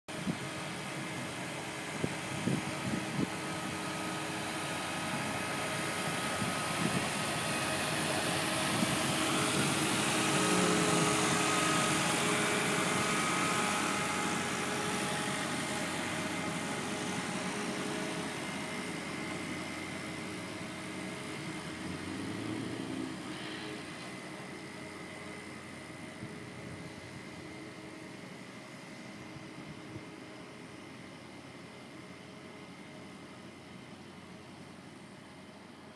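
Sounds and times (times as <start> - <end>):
road roller engine running: 0.1 - 35.9.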